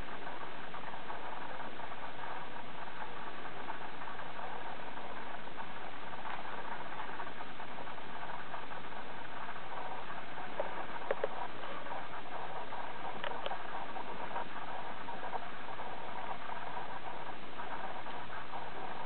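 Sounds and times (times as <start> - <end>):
steady machine noise: 0.0 - 19.0.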